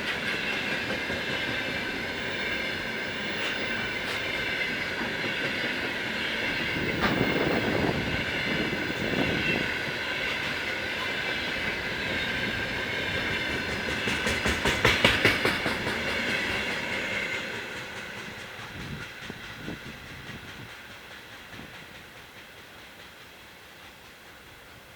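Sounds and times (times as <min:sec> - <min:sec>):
train wheels clacking over rail joints: 0:00.0 - 0:24.9.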